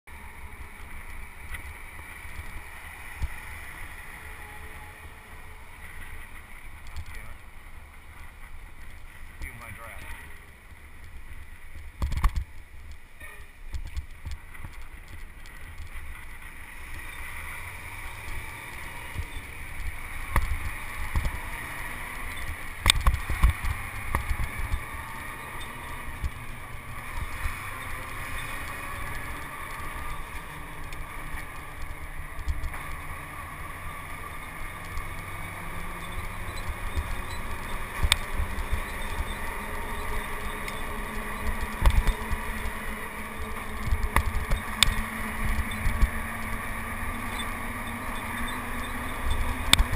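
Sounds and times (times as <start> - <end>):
truck running: 0.1 - 49.9
wind and road rumble: 0.1 - 49.9.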